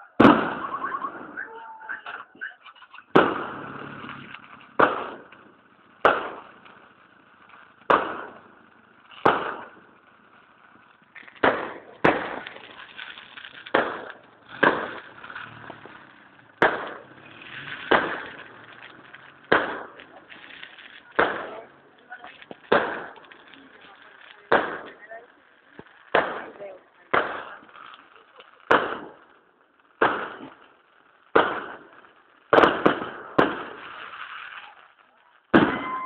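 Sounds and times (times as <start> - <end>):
firework shells bursting: 0.0 - 36.0.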